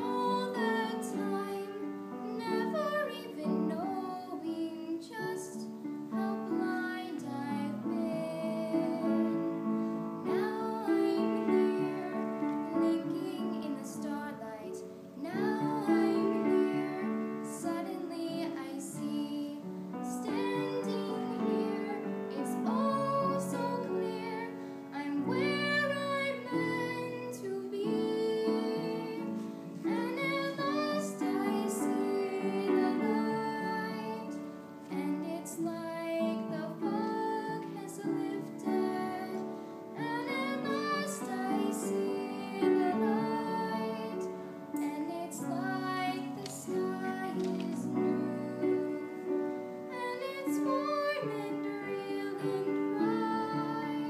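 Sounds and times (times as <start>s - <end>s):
woman singing: 0.0s - 9.6s, 10.2s - 54.0s
piano accompaniment: 0.0s - 54.0s.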